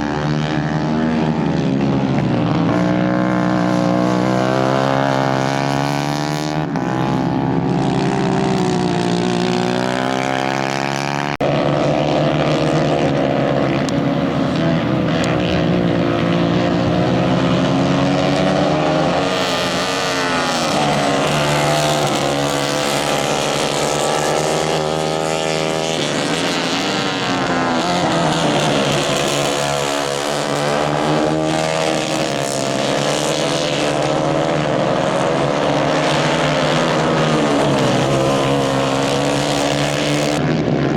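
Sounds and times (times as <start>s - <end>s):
race kart engines revving: 0.0s - 40.9s.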